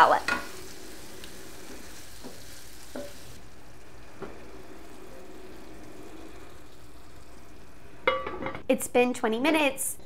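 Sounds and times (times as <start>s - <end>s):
faint kitchen hum: 0.0s - 10.0s.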